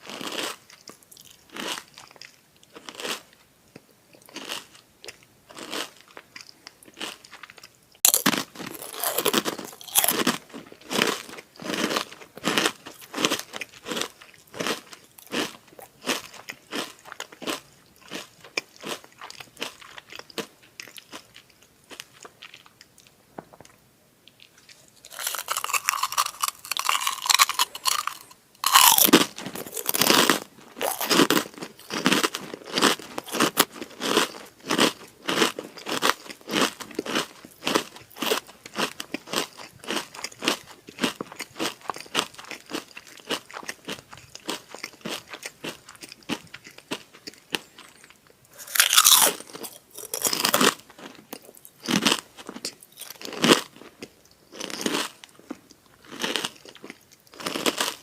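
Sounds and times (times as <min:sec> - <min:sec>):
crispy crackers being chewed: 0:00.0 - 0:58.0.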